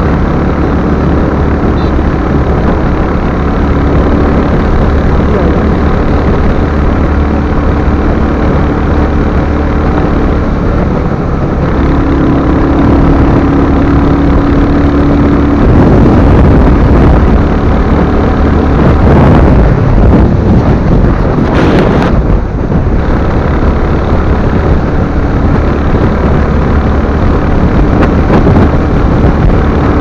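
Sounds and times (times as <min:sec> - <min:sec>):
motorcycle engine running: 0:00.0 - 0:30.0
road noise: 0:00.0 - 0:30.0
wind noise: 0:00.0 - 0:30.0.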